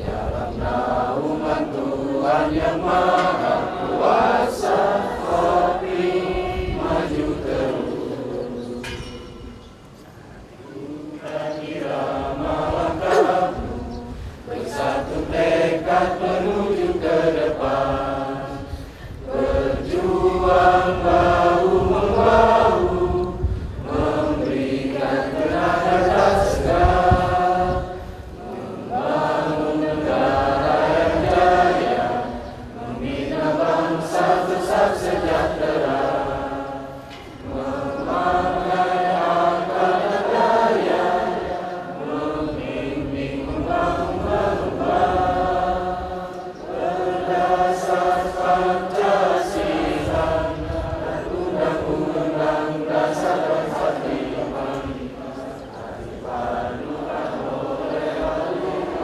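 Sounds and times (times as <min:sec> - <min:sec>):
crowd singing in unison: 0:00.0 - 0:59.0.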